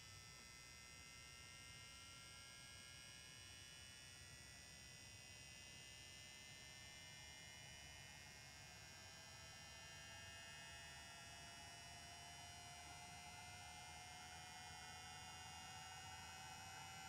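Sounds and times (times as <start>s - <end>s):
small cooling fan hum: 0.0s - 17.0s.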